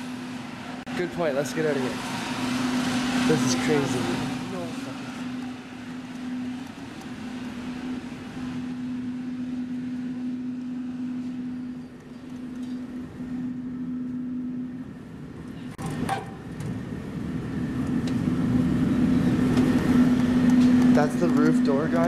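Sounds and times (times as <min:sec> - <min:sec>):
building machinery hum: 0:00.0 - 0:22.0.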